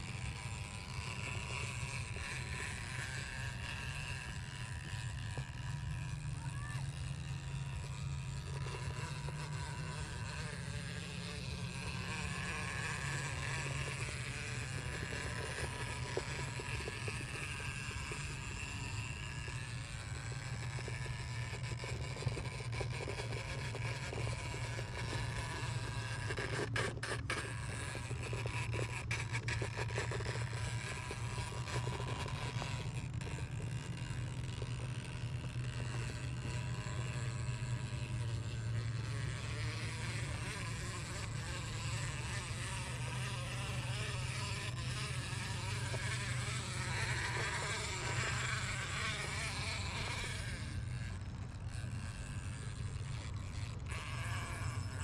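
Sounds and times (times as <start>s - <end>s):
rc car motor whining: 0.0s - 55.0s.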